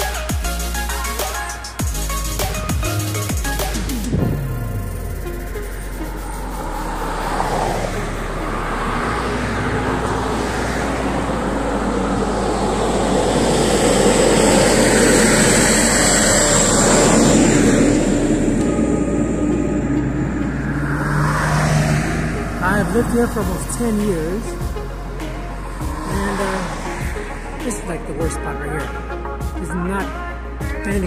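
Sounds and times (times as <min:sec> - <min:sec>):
cars passing: 0:00.0 - 0:30.9.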